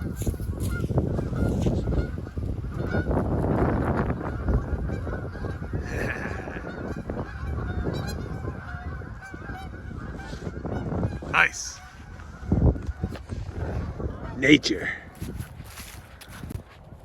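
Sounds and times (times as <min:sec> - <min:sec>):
geese honking: 0:00.0 - 0:14.6
wind buffeting microphone: 0:00.0 - 0:17.0.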